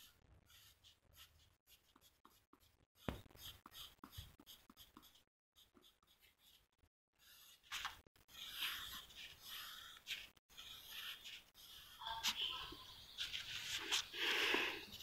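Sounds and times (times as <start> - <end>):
pen scratching on paper: 0.0 - 14.1.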